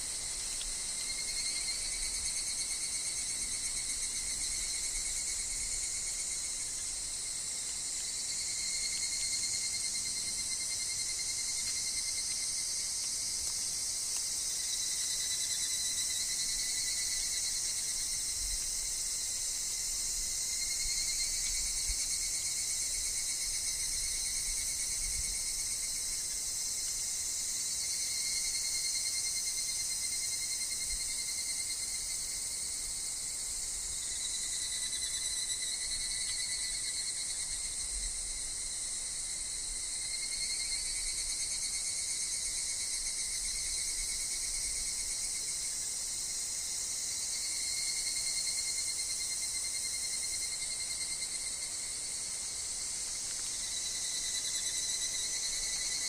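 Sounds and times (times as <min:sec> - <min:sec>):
cicadas and insects calling: 0:00.0 - 0:56.0.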